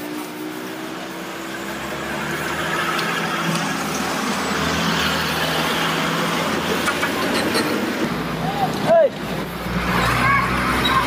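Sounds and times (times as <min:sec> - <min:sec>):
tyre and road noise: 0:00.0 - 0:11.0
vehicle engine hum passing: 0:00.0 - 0:11.0.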